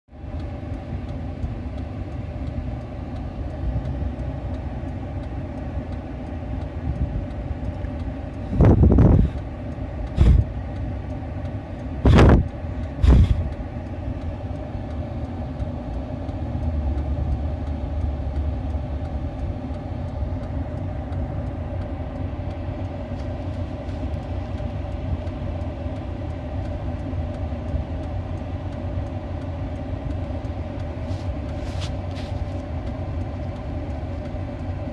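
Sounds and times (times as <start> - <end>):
low background rumble: 0.1 - 34.9.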